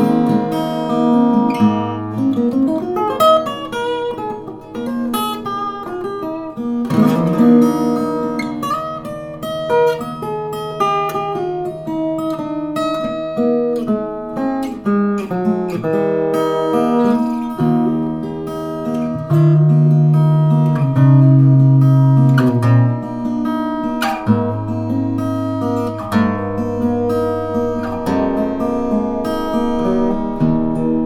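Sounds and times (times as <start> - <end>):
acoustic guitar playing: 0.0 - 31.0.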